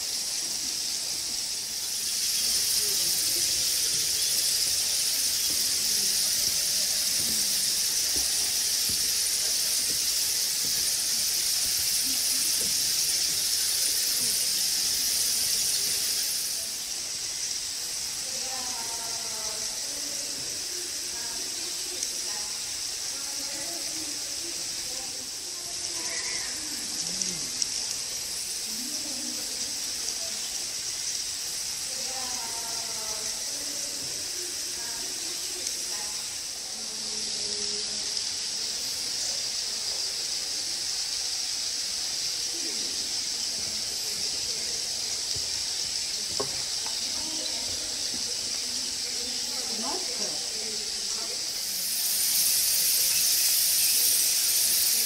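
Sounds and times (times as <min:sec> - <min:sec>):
faint distant voices: 0:00.0 - 0:55.0
high-pitched hissing drone: 0:00.0 - 0:55.0.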